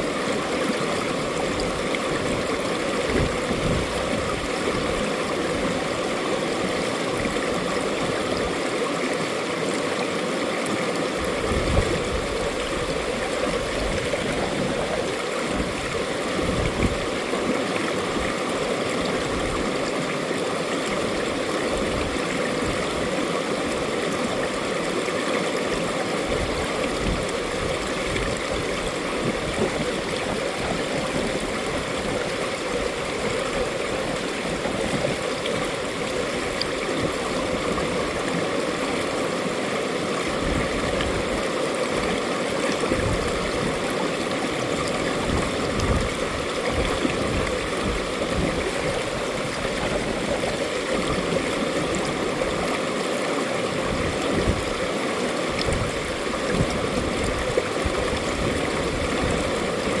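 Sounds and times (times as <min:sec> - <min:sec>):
stream flowing water: 0:00.0 - 1:00.0.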